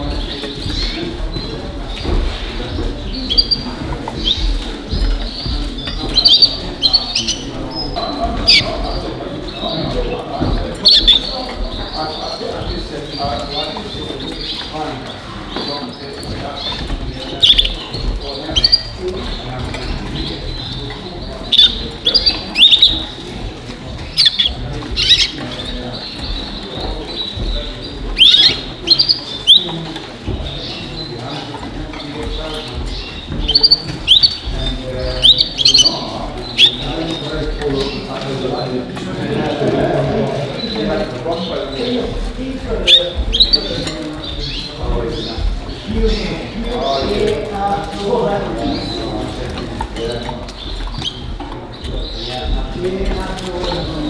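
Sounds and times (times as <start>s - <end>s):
canaries chirping: 0.0s - 54.0s
chatter of caged birds: 0.0s - 54.0s
murmur of busy hall: 0.0s - 54.0s.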